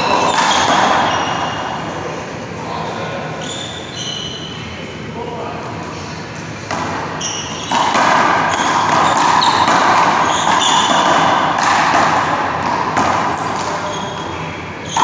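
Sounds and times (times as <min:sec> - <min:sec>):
sneakers squeaking: 0:00.0 - 0:02.2, 0:03.2 - 0:05.0, 0:05.7 - 0:15.0.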